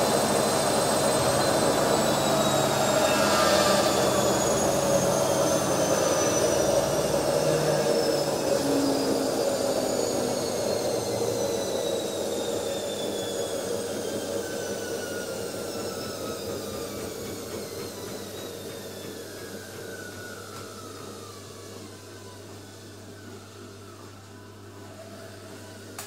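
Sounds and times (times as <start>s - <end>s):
washing machine draining whine: 0.0s - 26.0s.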